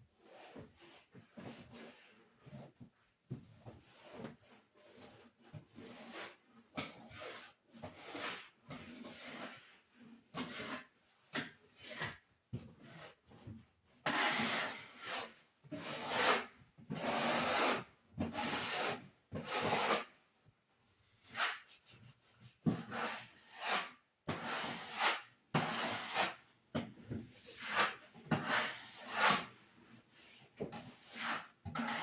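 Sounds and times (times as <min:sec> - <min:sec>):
rasping scrub on wall: 0:00.2 - 0:02.8, 0:03.7 - 0:20.2, 0:21.2 - 0:26.5, 0:27.4 - 0:32.0.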